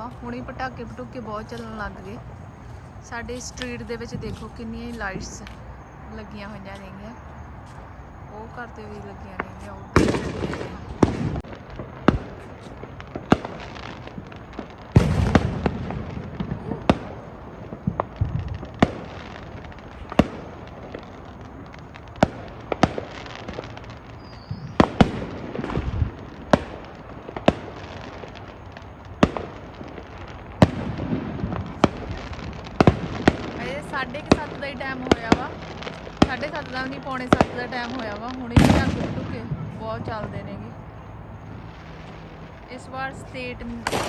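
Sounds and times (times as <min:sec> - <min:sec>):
firecrackers cracking: 0:00.0 - 0:08.0, 0:09.1 - 0:44.0
low fireworks rumble: 0:00.0 - 0:44.0.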